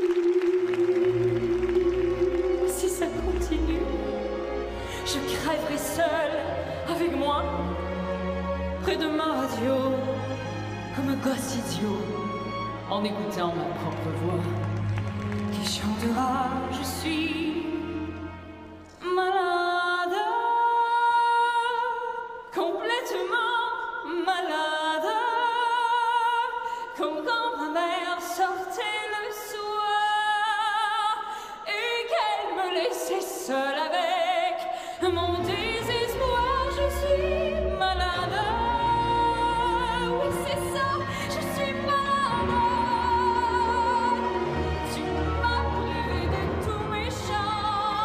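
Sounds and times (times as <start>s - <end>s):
operatic singing with vibrato: 0.0s - 48.0s.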